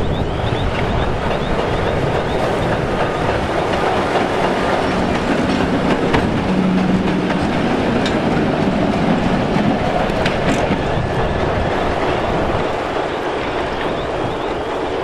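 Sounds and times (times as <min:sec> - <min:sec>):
diesel locomotive engine: 0:00.0 - 0:15.0
wheels clattering on rails: 0:00.0 - 0:15.0.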